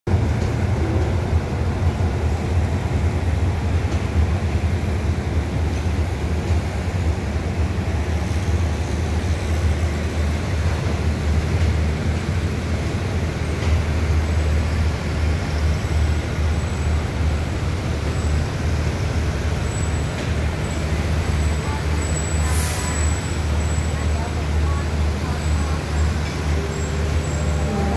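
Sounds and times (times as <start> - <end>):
diesel train engines idling: 0.1 - 27.9.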